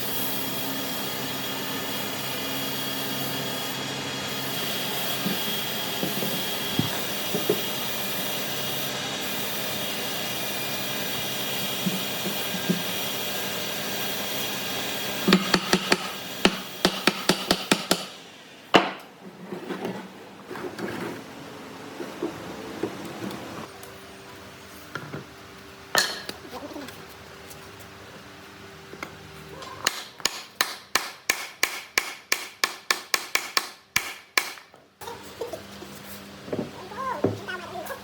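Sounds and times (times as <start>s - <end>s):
workshop machine hum and hiss: 0.0s - 38.0s.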